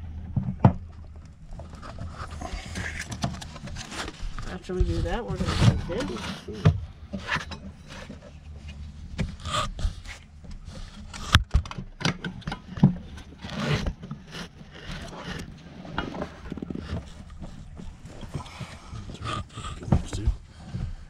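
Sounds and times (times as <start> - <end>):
scraping of hard parts: 0.4 - 21.0.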